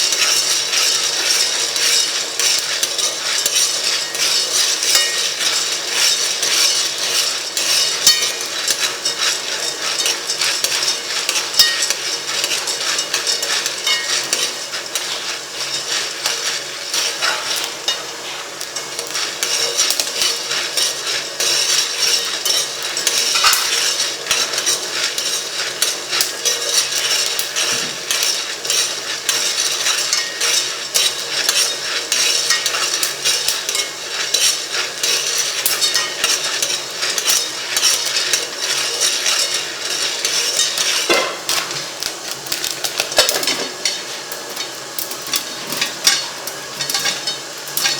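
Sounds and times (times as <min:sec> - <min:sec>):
food sizzling in a pan: 0:00.0 - 0:47.9
metal utensil scraping a pan: 0:00.0 - 0:47.9.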